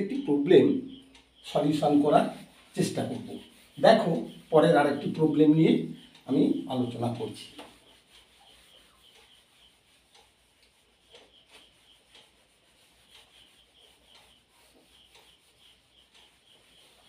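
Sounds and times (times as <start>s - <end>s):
duster rubbing on whiteboard: 1.5s - 17.0s.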